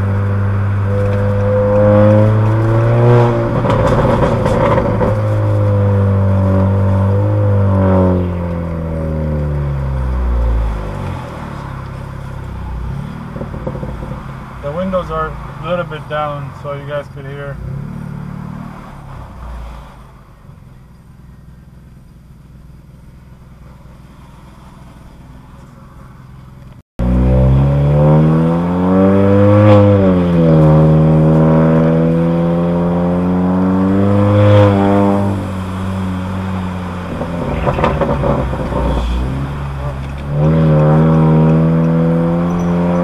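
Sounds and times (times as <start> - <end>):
loud car exhaust revving: 0.0 - 19.6, 27.0 - 43.0
car engine running: 0.0 - 43.0.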